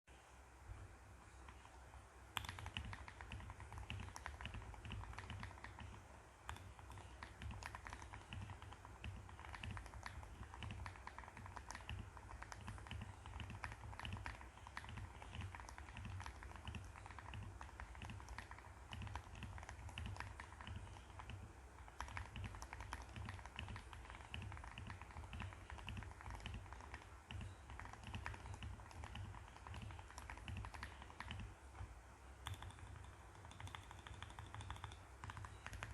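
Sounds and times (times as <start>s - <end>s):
faint low hum: 0.1s - 35.9s
mechanical keyboard typing: 2.4s - 35.9s.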